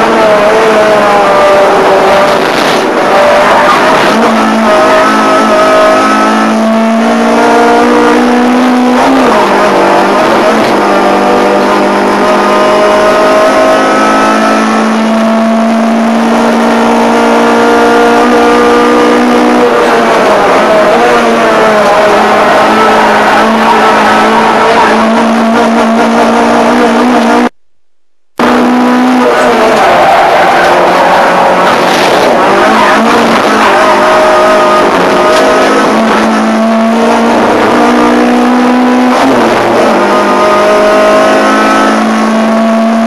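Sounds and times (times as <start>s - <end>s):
race car engine accelerating: 0.0s - 27.6s, 28.4s - 43.0s.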